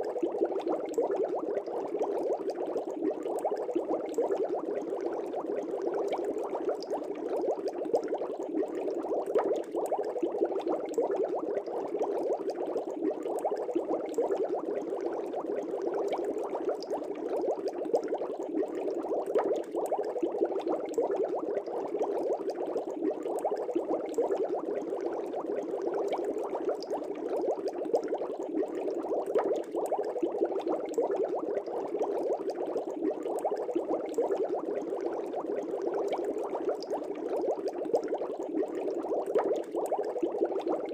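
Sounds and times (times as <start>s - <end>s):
aquarium air bubbling: 0.0s - 40.9s.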